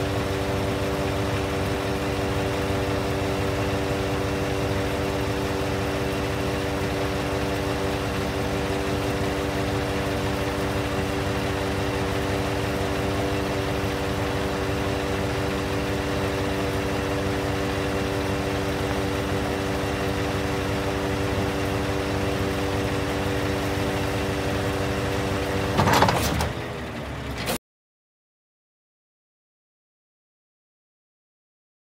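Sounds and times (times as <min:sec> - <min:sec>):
steady whine: 0:00.0 - 0:26.4
truck diesel engine idling: 0:00.0 - 0:27.4.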